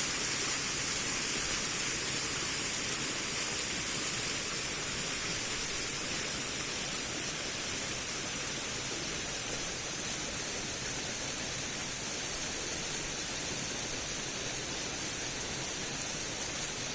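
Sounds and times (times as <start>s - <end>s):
water pouring over dam: 0.0s - 16.9s.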